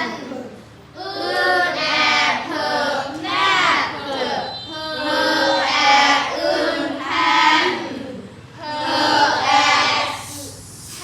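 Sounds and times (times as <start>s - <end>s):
children chanting words: 0.0s - 11.0s.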